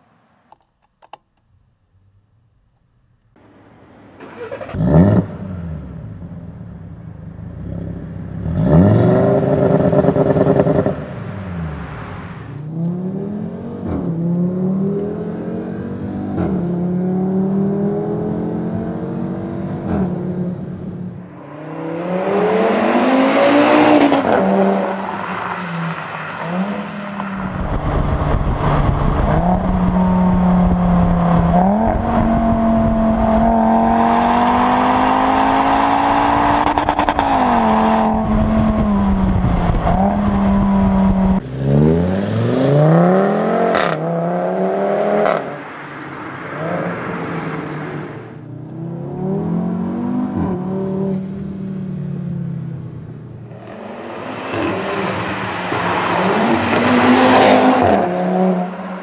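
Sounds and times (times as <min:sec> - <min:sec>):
car engine starting: 0:01.6 - 0:59.0
car engine revving and accelerating: 0:04.2 - 0:59.0.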